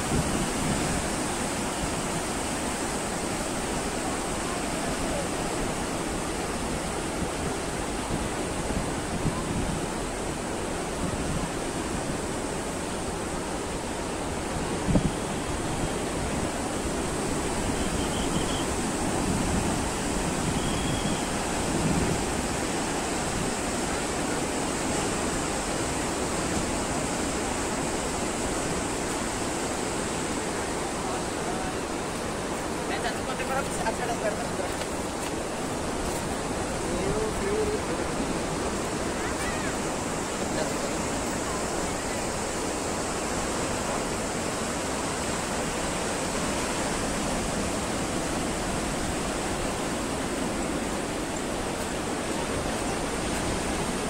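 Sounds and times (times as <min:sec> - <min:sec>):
waves breaking on rocky beach: 0:00.0 - 0:54.0.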